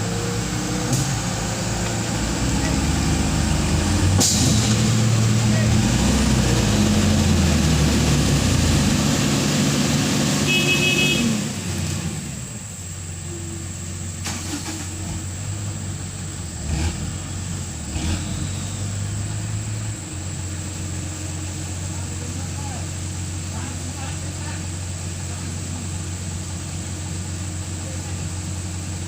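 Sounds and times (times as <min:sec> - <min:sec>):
truck engine revving under strain: 0:00.0 - 0:29.0.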